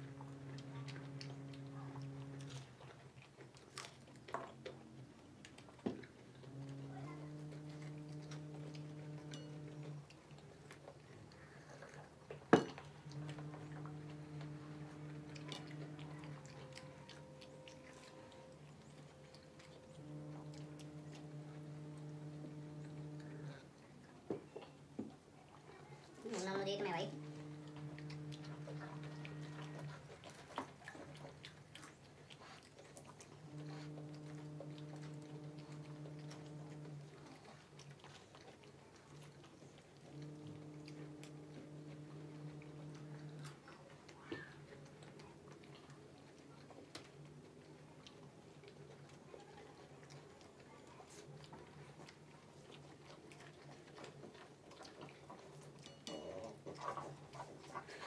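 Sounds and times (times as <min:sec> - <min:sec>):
steady low hum: 0:00.0 - 0:04.0, 0:06.1 - 0:24.2, 0:25.8 - 0:54.4
people chewing food: 0:00.0 - 0:58.0.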